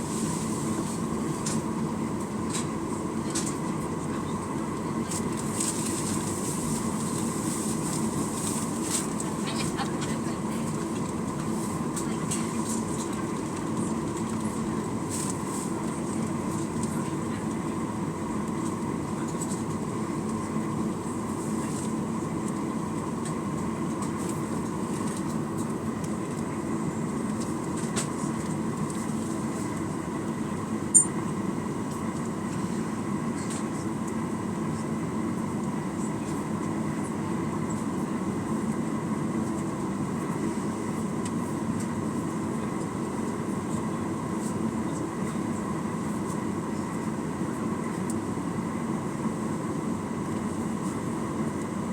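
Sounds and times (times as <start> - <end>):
aircraft cabin drone: 0.0 - 51.9.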